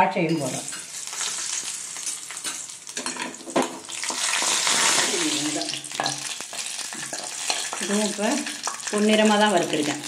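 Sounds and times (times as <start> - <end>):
nuts sizzling in hot fat: 0.4 - 10.0.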